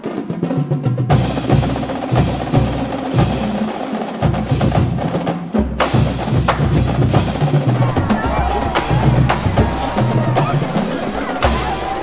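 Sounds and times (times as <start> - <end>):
drum-led percussion music: 0.2 - 12.0.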